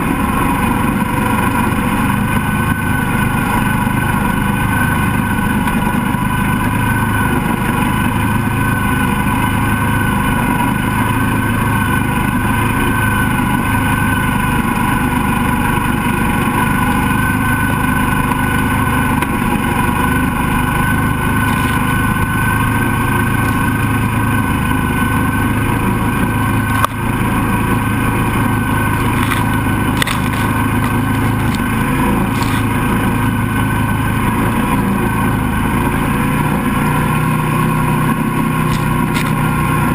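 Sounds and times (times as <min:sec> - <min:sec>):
buggy engine running steadily: 0:00.0 - 0:39.9
tires churning through water: 0:00.0 - 0:39.9.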